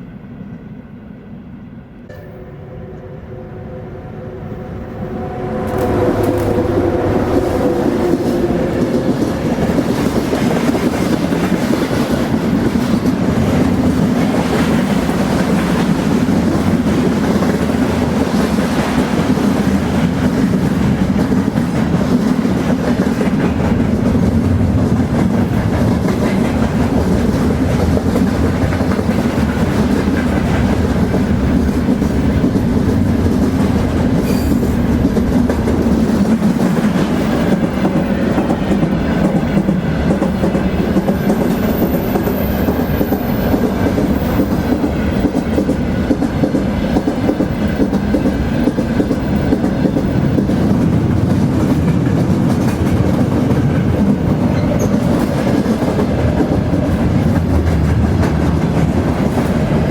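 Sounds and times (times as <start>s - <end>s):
train wheels rumbling on rails: 4.3s - 59.9s.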